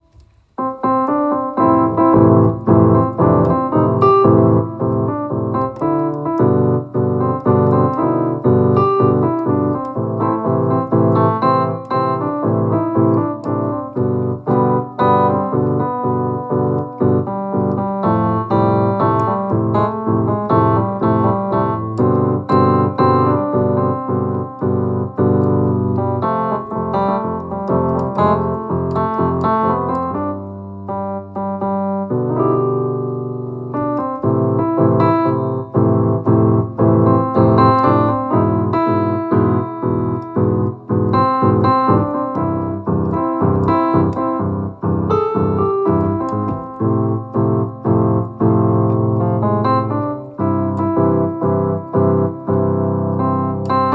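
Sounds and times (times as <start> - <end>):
electronic keyboard piano playing: 0.0 - 53.9.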